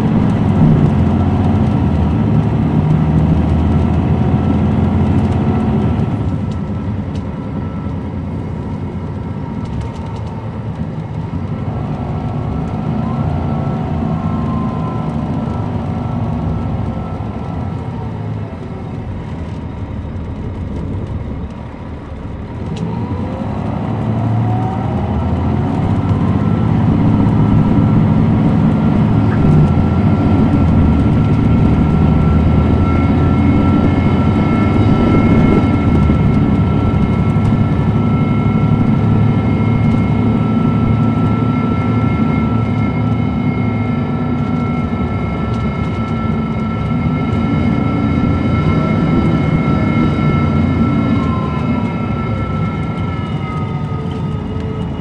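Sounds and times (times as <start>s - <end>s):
bus diesel engine droning: 0.0s - 55.0s
high engine whine: 0.0s - 55.0s.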